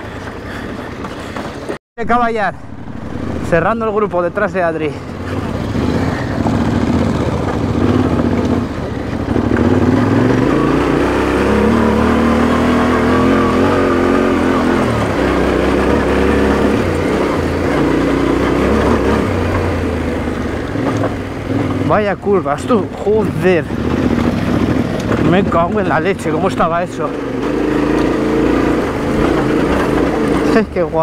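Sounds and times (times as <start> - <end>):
motorcycle engine revving: 2.6 - 31.0.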